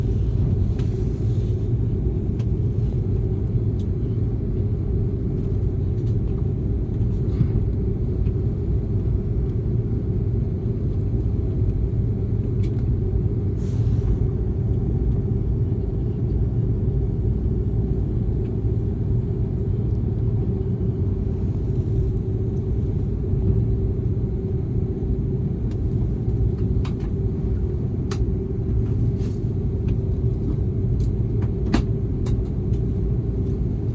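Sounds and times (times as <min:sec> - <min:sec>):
airliner engine rumble: 0:00.0 - 0:33.9.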